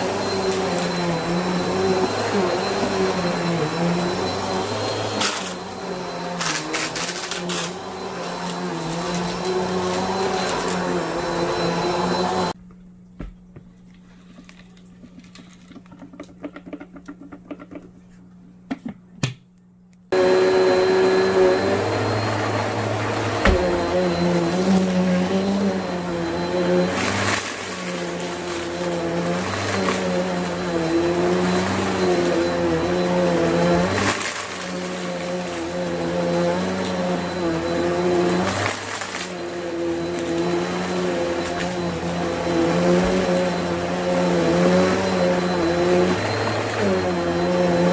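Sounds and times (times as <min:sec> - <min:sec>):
vacuum cleaner motor hum: 0:00.0 - 0:12.6, 0:20.1 - 0:47.9.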